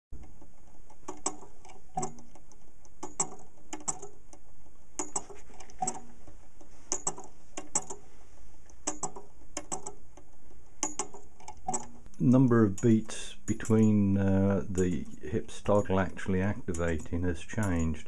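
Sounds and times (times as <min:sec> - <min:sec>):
pendulum mechanism clicking: 0:00.2 - 0:18.0.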